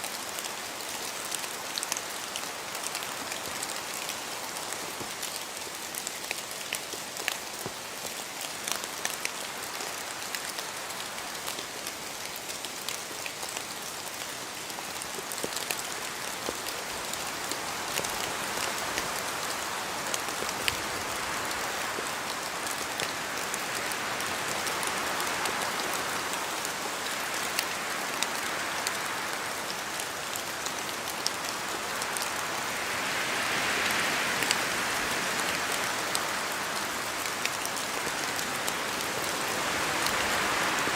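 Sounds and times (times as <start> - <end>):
steady rain: 0.0 - 40.9
wind gusting through trees: 0.0 - 40.9.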